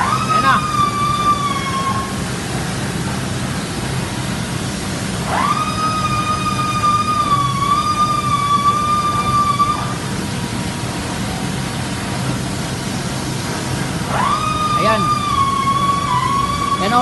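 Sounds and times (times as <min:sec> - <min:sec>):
high steady machine whine: 0:00.0 - 0:17.0.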